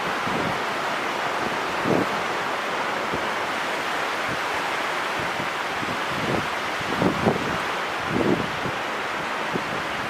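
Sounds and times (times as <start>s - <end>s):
ocean surf on a beach: 0.0s - 10.0s
wind buffeting microphone: 0.0s - 10.0s.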